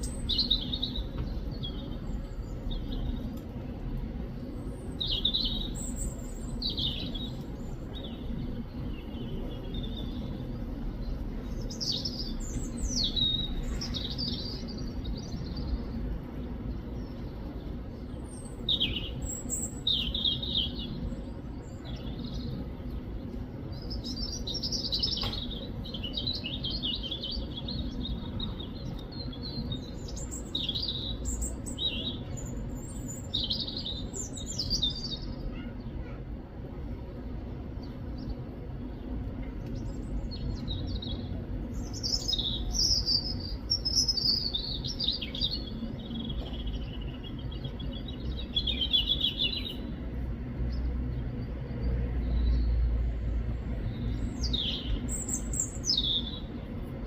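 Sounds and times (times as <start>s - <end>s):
bird singing: 0.0s - 3.5s, 4.4s - 36.2s, 37.8s - 50.1s, 50.7s - 56.8s
low background noise: 0.0s - 57.0s.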